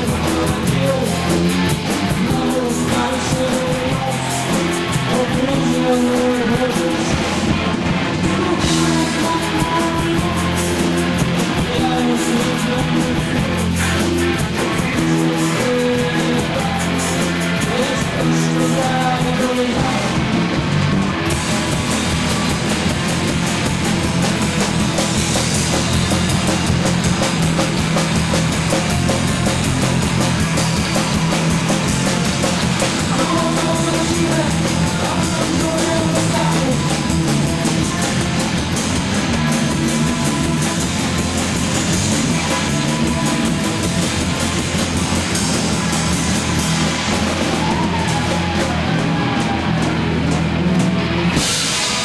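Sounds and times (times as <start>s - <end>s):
bass guitar: 0.0s - 52.0s
distorted electric guitars: 0.0s - 52.0s
drums with cymbals: 0.0s - 52.0s.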